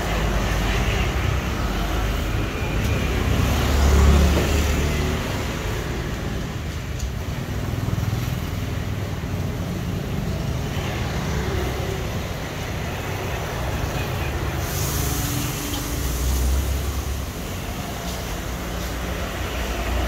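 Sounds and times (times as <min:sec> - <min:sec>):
passing vehicle rumble: 0:00.0 - 0:20.0
steady traffic hum: 0:00.0 - 0:20.0.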